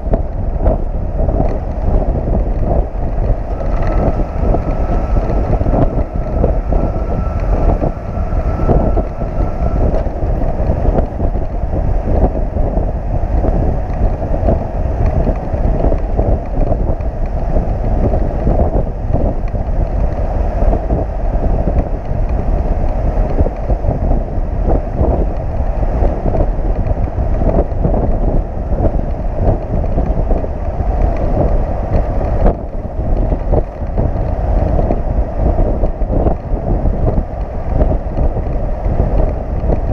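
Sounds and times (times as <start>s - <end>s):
truck and tyres rumbling: 0.0s - 39.9s
wind buffeting microphone: 0.0s - 39.9s.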